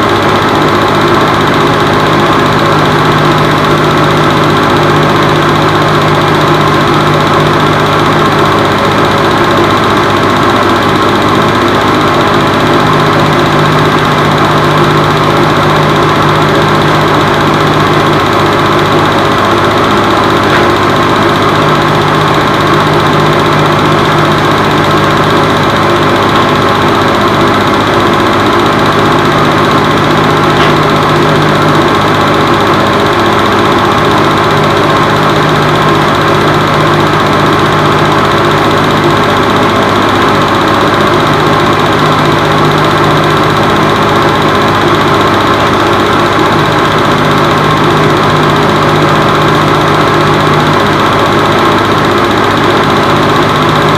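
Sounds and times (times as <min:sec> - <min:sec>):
film projector whirring: 0:00.0 - 0:53.9.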